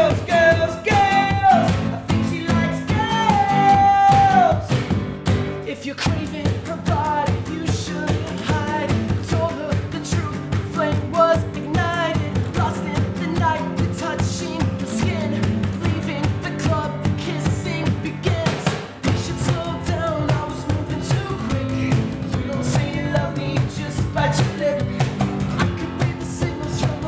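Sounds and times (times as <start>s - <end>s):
man singing: 0.0s - 4.8s, 5.6s - 27.0s
acoustic guitars strummed: 0.0s - 27.0s.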